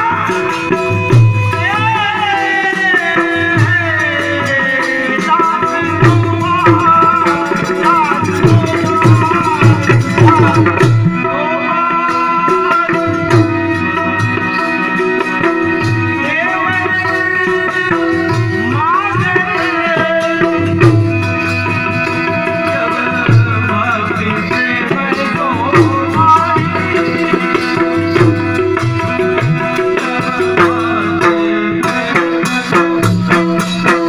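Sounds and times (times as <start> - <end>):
hand drum rhythm: 0.0 - 34.0.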